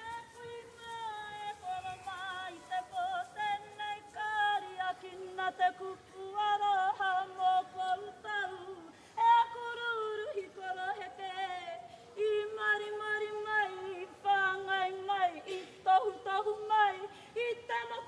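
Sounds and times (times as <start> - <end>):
woman singing long held notes: 0.0 - 18.0.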